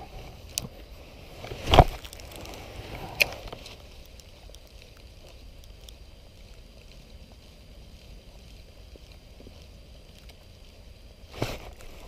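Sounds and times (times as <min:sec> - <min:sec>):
light scattered ticks: 0:00.0 - 0:12.0.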